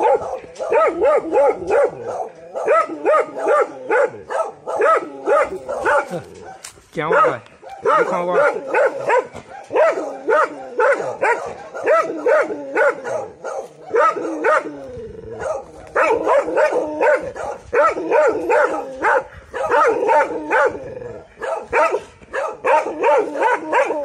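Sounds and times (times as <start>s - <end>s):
dog barking: 0.0s - 14.7s, 15.4s - 24.0s.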